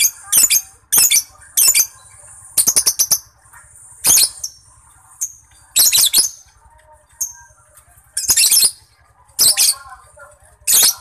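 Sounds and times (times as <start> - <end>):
bird chattering chirps: 0.0 - 7.6, 8.2 - 11.0.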